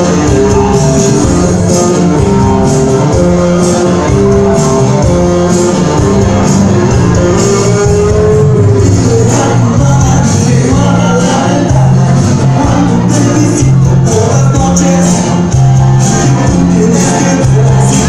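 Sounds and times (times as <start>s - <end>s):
guitar dance music over sound system: 0.0s - 18.0s.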